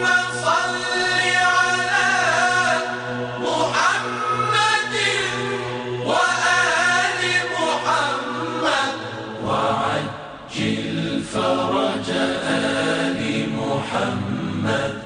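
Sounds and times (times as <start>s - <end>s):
voices chanting devotional chant: 0.0s - 15.0s.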